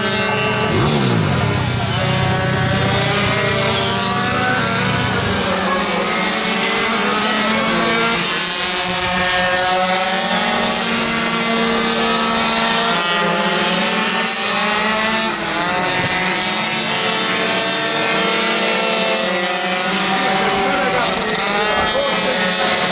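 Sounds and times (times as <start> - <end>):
two-stroke minimoto engines racing: 0.0 - 22.9.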